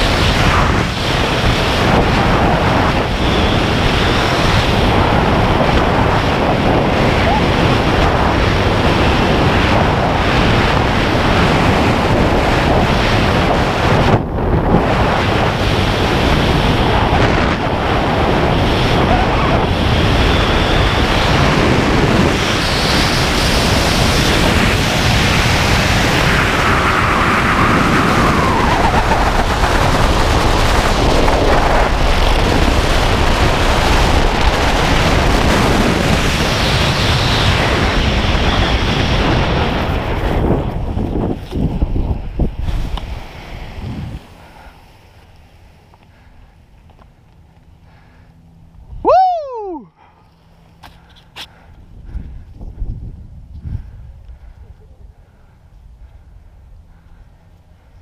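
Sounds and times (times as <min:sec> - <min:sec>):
wind rushing over microphone: 0:00.0 - 0:50.0, 0:50.6 - 0:58.0.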